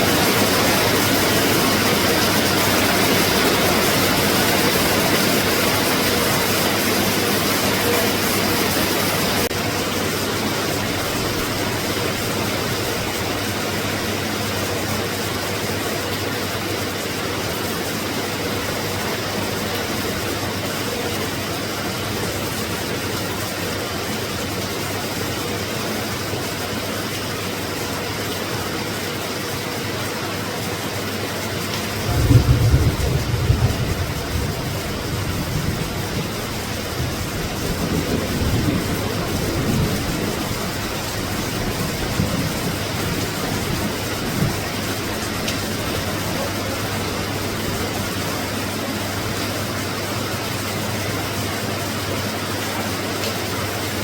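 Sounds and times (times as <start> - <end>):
rain falling on the sea: 0.0 - 54.0.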